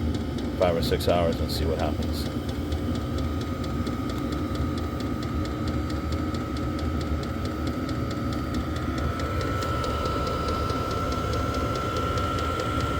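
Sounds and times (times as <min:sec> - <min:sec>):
fan whine: 0:00.0 - 0:12.9.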